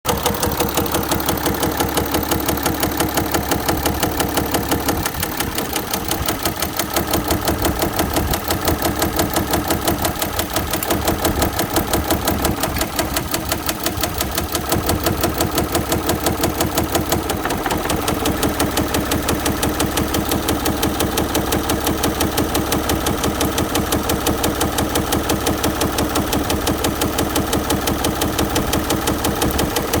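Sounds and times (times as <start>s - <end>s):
car engine knocking: 0.0s - 30.0s.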